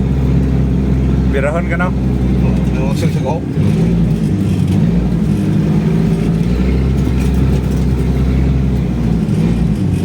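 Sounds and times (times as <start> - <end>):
off-road engine under heavy throttle: 0.0 - 10.0.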